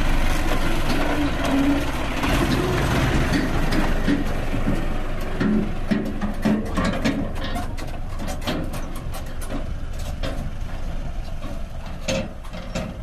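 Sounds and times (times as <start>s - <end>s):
tractor diesel engine running: 0.0s - 13.0s
trailer clanking and rattling: 0.0s - 13.0s.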